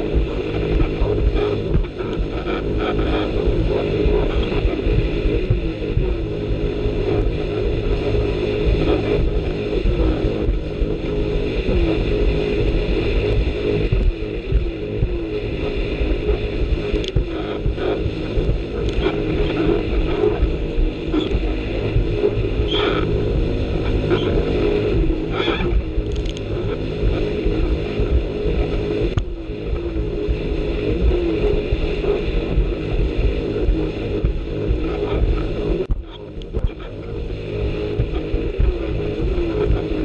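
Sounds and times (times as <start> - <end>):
jet ski engine running: 0.0 - 40.0.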